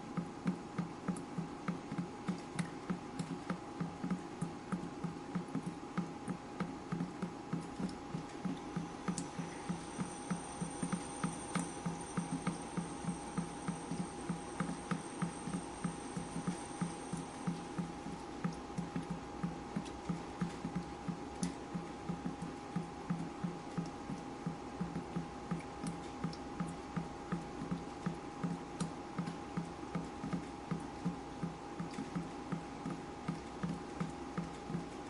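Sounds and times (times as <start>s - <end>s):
faint steady hum: 0.0s - 35.0s
water dripping: 0.1s - 35.0s.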